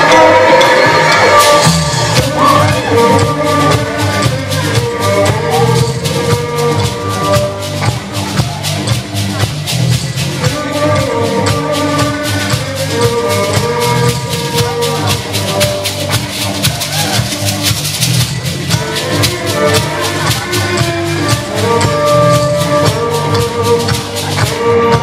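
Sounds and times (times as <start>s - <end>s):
music with steady percussion: 0.0s - 25.0s
pulsing bass line: 0.0s - 25.0s.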